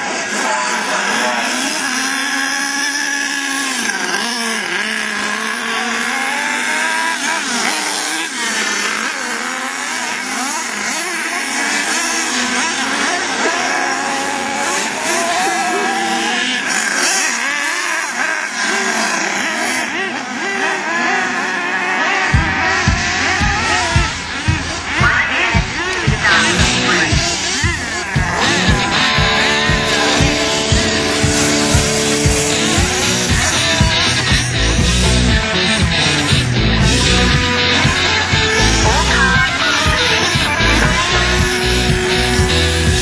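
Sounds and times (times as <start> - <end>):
rc truck motors whining: 0.0 - 43.0.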